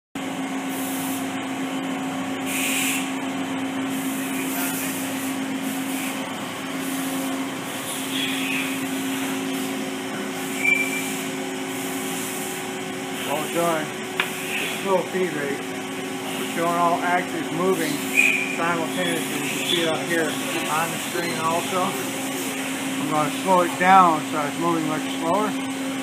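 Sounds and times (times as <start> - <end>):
machining center humming: 0.2 - 26.0.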